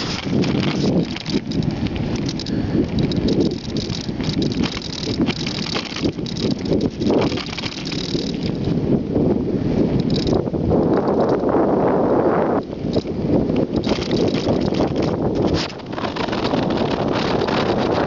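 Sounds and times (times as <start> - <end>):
bicycle clatter and rattle: 0.0 - 8.8, 9.9 - 11.6, 12.4 - 18.0
bicycle tyre noise on rough road: 0.0 - 18.0.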